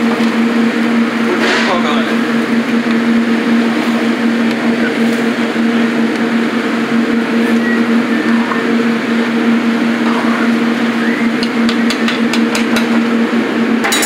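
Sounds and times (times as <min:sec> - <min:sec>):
kitchen machinery droning: 0:00.0 - 0:14.0.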